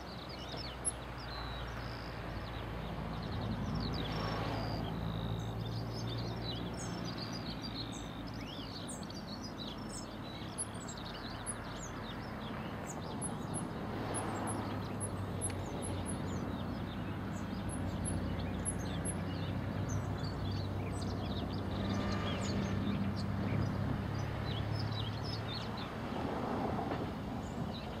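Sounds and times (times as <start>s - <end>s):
flycatcher singing: 0.0s - 25.9s
other birdsong: 0.0s - 28.0s.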